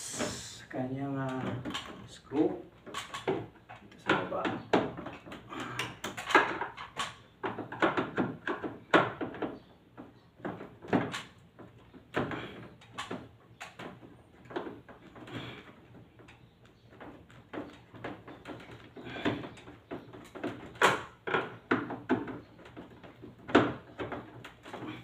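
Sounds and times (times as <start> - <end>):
plastic parts clicking and rattling: 1.2 - 25.0.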